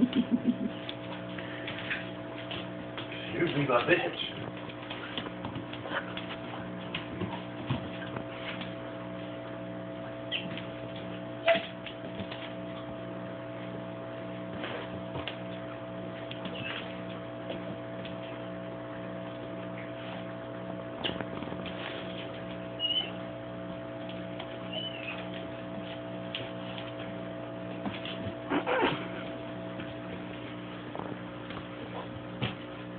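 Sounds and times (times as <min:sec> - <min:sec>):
steady electrical hum: 0:00.0 - 0:32.9.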